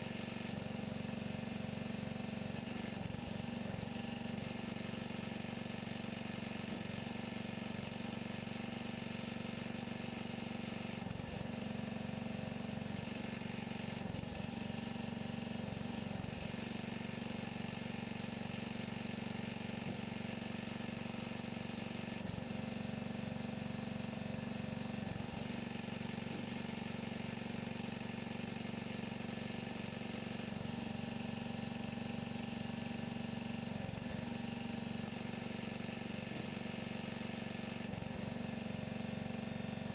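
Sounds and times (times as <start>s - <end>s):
log splitter engine running: 0.0s - 39.9s.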